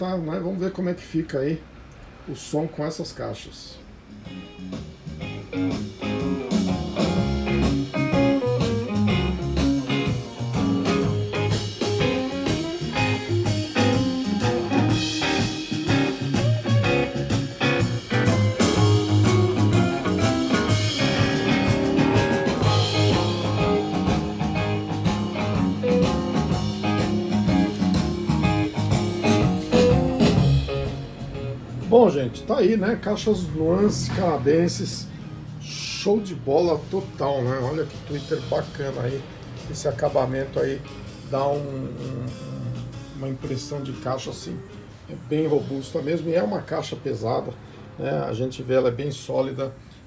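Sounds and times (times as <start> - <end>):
guitar music with steady beat: 3.9 - 48.3.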